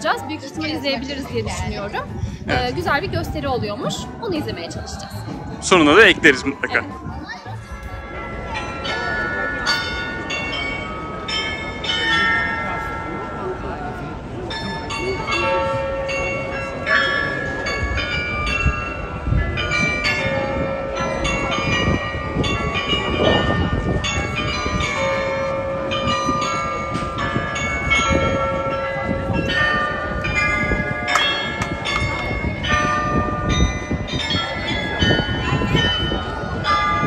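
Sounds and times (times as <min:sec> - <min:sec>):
glockenspiel bells playing tune: 0:00.0 - 0:13.8, 0:14.5 - 0:37.0.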